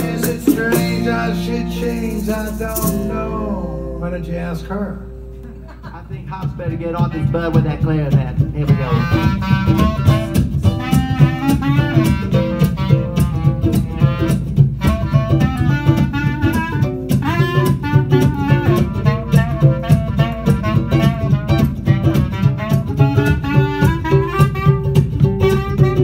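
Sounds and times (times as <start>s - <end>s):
reed instrument jazz melody: 0.0s - 26.0s.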